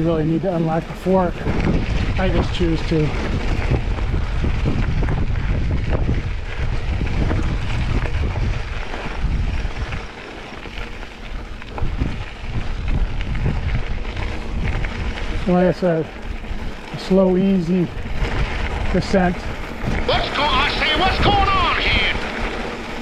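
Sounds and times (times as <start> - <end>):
bike rattles and clicks: 0.0 - 23.0
wind buffeting microphone: 0.0 - 23.0.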